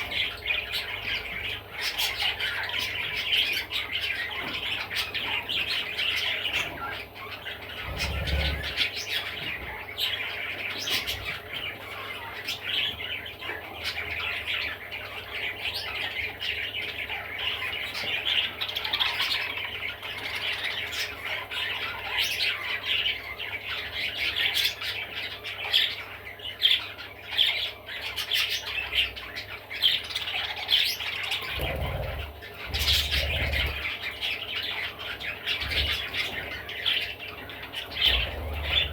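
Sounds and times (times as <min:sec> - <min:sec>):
budgerigar chattering: 0:00.0 - 0:38.9.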